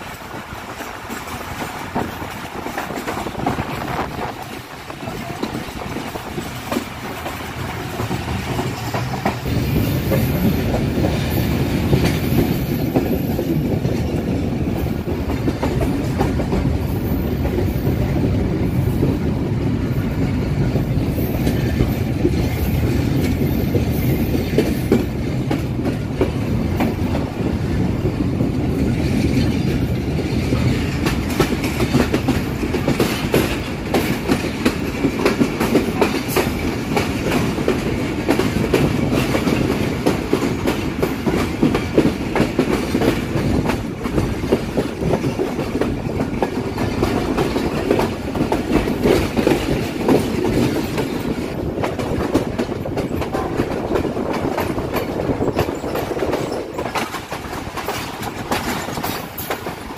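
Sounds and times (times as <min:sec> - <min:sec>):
train coaches rumbling: 0:00.0 - 0:59.9
wheels clacking over rail joints: 0:00.0 - 0:59.9.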